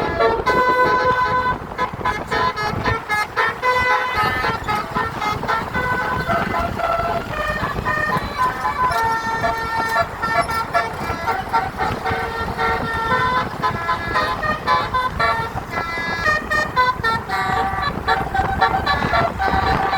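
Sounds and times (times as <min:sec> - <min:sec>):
multi-tone bus horn tune: 0:00.0 - 0:19.9.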